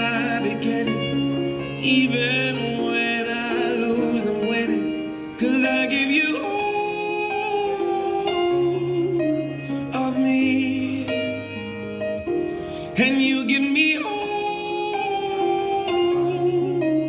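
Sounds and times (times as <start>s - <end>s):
person singing long notes: 0.0s - 11.6s, 12.8s - 17.0s.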